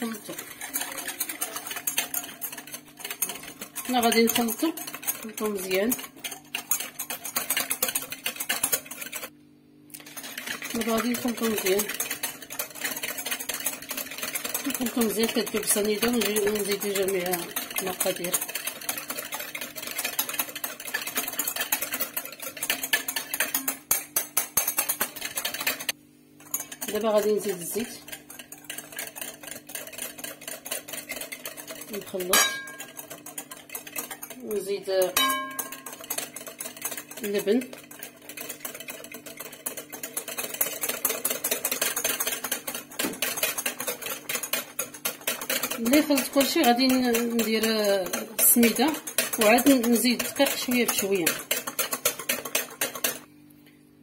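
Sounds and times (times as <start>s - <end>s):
whisk clicking against glass bowl: 0.0s - 9.3s, 9.9s - 53.3s.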